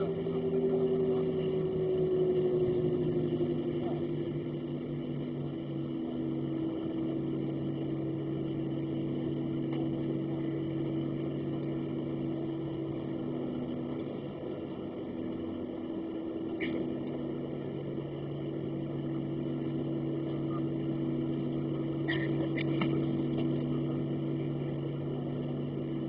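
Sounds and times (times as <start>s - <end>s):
jet engines humming in cabin: 0.0s - 26.0s.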